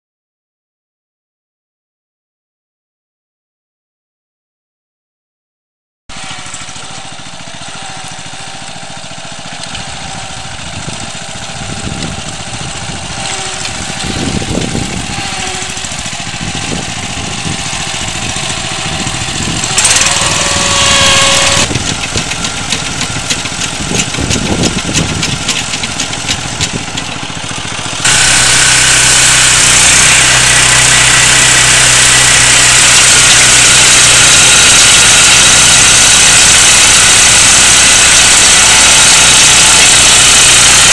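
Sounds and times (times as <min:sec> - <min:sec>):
engine whine: 0:06.1 - 0:40.9
walk-behind tractor engine running: 0:06.1 - 0:40.9.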